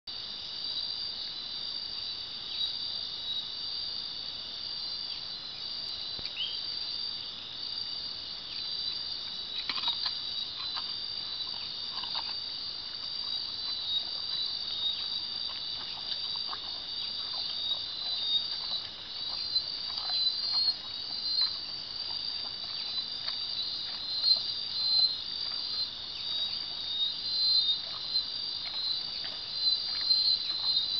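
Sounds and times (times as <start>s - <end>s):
insects trilling: 0.1s - 30.9s.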